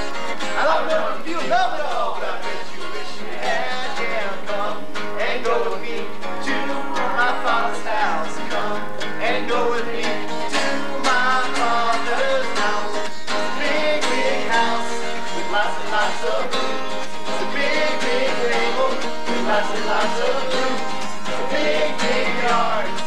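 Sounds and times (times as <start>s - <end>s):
acoustic guitar strumming: 0.0s - 23.0s
person singing: 0.0s - 23.0s.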